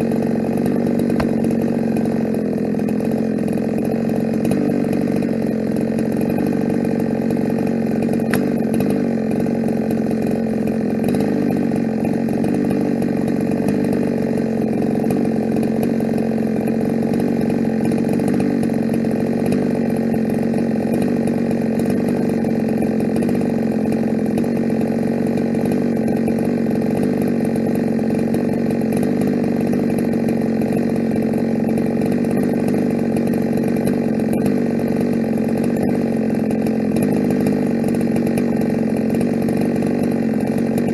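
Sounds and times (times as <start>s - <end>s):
chainsaw running at high speed: 0.0s - 40.9s.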